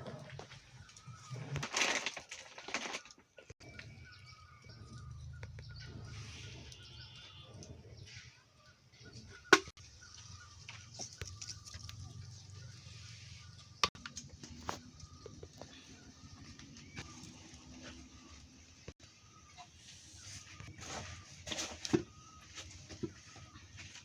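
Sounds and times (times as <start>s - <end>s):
small birds chirping: 3.3s - 24.0s.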